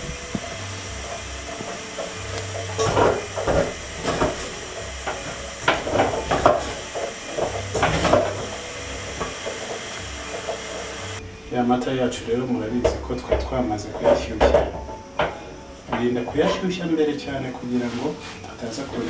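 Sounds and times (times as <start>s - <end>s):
wooden spatula scraping a pot: 0.0s - 11.2s, 12.8s - 19.0s
steady hiss: 0.0s - 19.0s.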